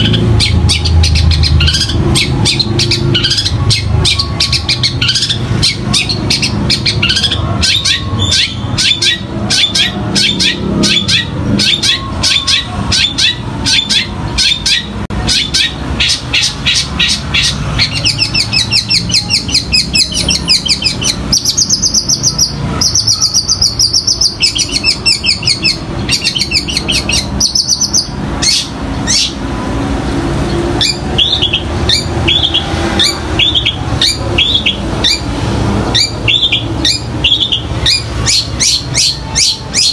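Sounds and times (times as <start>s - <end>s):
shrike chirping and trilling: 0.0s - 39.9s.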